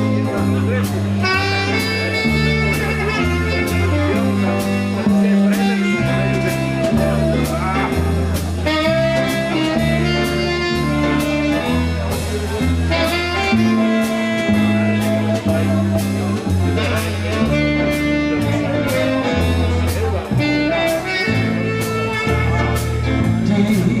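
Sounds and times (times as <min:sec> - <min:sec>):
guitar: 0:00.0 - 0:24.0
saxophone melody: 0:00.0 - 0:24.0
walking double bass line: 0:00.0 - 0:24.0.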